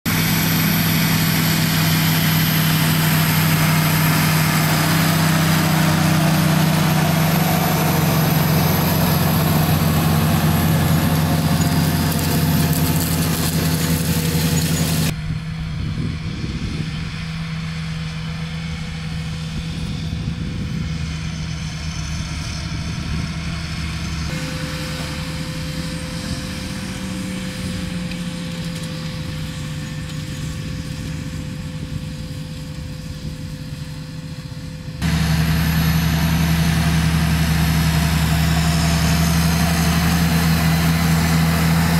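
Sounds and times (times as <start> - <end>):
tractor diesel engine running: 0.0 - 41.9
steady whine: 0.1 - 41.9.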